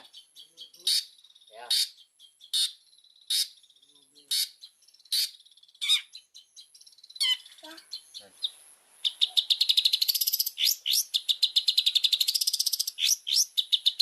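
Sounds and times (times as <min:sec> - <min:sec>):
shrike calling: 0:00.0 - 0:14.0.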